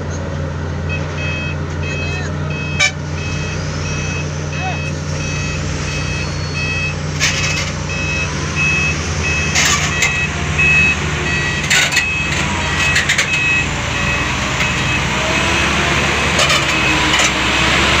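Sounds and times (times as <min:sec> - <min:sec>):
diesel machinery engine hum: 0:00.0 - 0:18.0
backup alarm beeping: 0:00.9 - 0:17.1.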